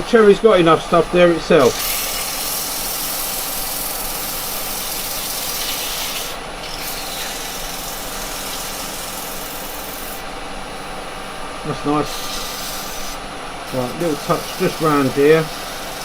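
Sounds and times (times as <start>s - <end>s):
lathe motor humming: 0.0s - 16.0s
tool scraping spinning wood: 0.0s - 16.0s.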